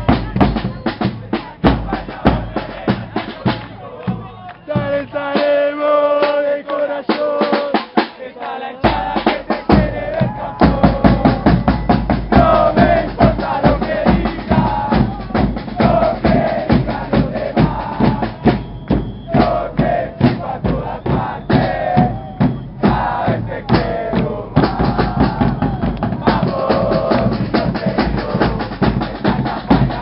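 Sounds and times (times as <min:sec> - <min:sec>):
bass drums beating: 0:00.0 - 0:05.6, 0:08.8 - 0:30.0
snare drums beating: 0:00.0 - 0:08.2, 0:08.8 - 0:30.0
crowd chanting: 0:00.0 - 0:30.0.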